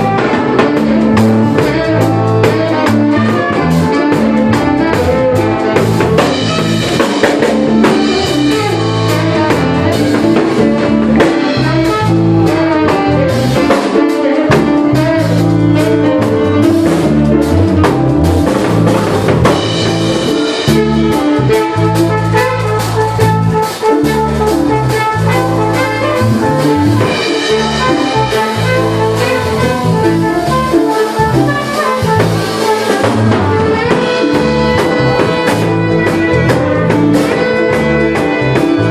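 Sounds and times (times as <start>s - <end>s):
bass line: 0.0s - 38.9s
drum kit: 0.0s - 38.9s
jazz fusion band playing: 0.0s - 38.9s
pitched lead lines: 0.0s - 38.9s.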